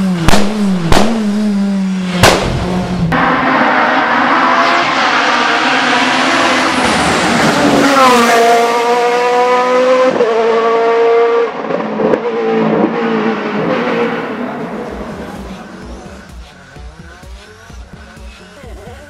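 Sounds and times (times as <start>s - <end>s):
race car engine at high revs: 0.0s - 19.0s.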